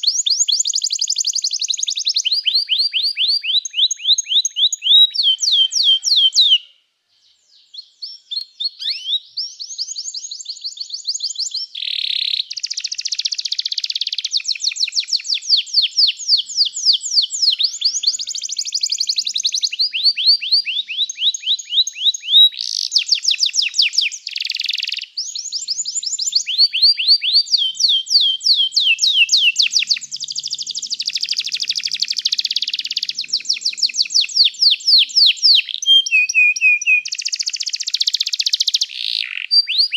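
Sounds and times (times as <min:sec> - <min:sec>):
canary singing trills: 0:00.0 - 0:06.7, 0:07.5 - 0:39.9.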